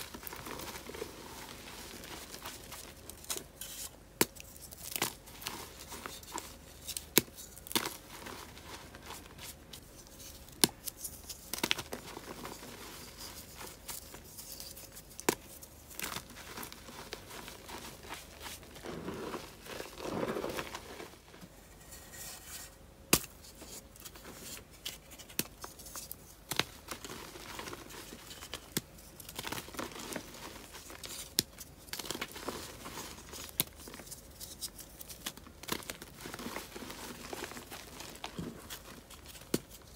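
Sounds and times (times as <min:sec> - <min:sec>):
chalk crunching and crumbling: 0:00.0 - 0:39.9.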